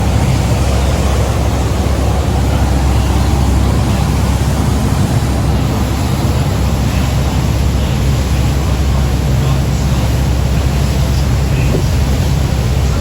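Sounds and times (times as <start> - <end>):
boat engine drone: 0.0 - 13.0
wind and water rushing: 0.0 - 13.0.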